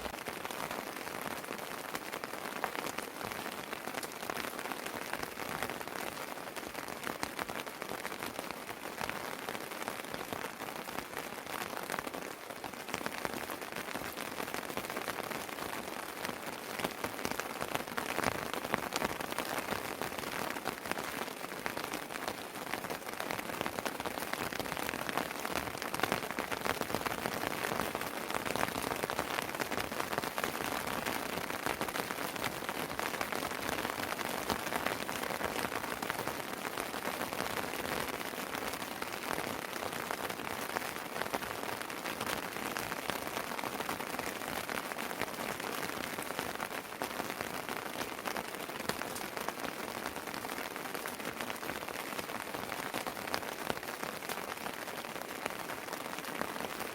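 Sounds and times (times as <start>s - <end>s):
raindrops pattering: 0.0s - 56.9s.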